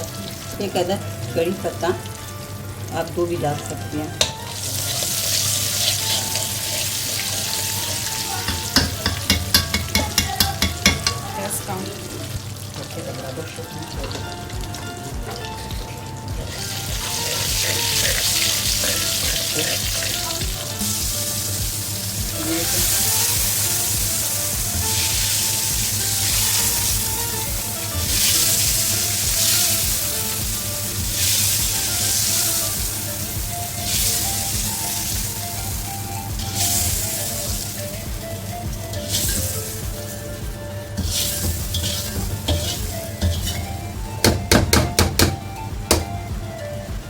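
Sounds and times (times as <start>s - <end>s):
spices sizzling in hot oil: 0.0s - 46.9s.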